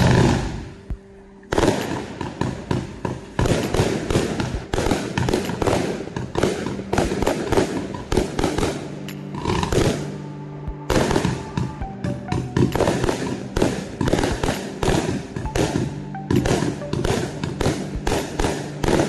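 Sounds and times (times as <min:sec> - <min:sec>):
fireworks bursts with crackle: 0:00.0 - 0:00.8, 0:01.5 - 0:10.2, 0:10.8 - 0:19.0.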